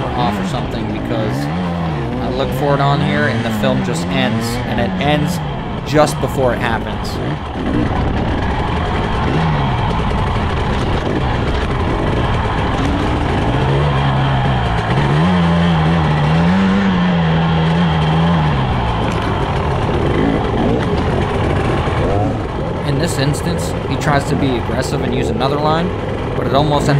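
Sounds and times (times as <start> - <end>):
dirt bike engine revving: 0.0 - 26.9
steady rush of noise: 0.0 - 26.9.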